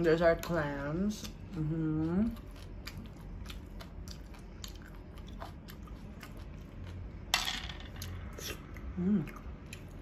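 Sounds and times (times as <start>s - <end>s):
person chewing food: 1.2s - 7.3s, 8.0s - 10.0s.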